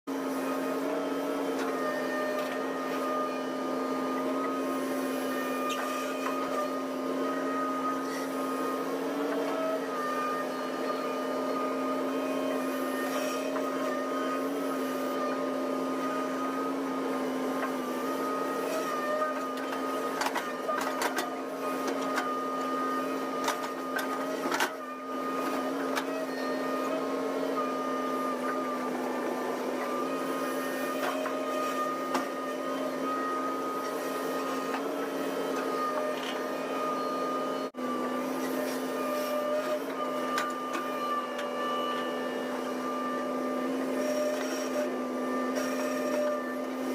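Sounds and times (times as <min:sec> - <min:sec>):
excavator whining hum: 0:00.1 - 0:46.9.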